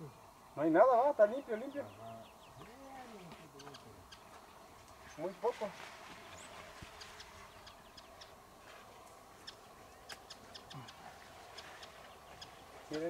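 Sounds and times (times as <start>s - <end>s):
small birds chirping faintly: 0.0s - 13.0s
soft open-air hush: 0.0s - 13.0s.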